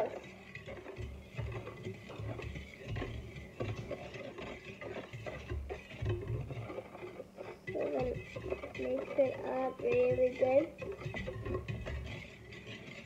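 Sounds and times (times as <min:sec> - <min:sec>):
whisk scraping metal bowl: 0:00.0 - 0:13.0.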